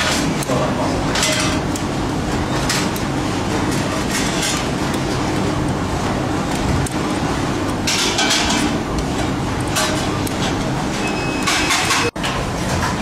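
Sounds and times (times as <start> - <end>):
workshop machinery rumbling: 0.0 - 13.0.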